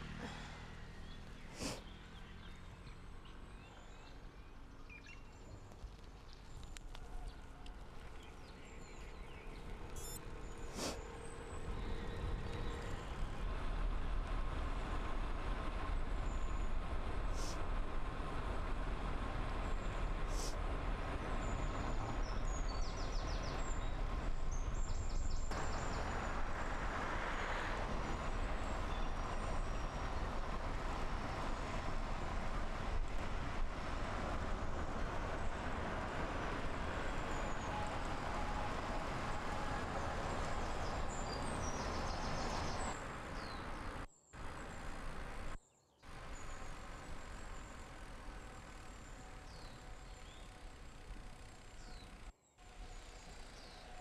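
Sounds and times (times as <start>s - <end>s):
low wind rumble: 0.0s - 53.9s
road noise: 0.0s - 54.0s.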